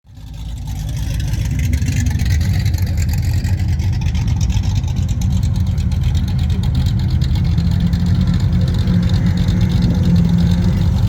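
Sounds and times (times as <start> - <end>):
engine low rumble: 0.0 - 11.0.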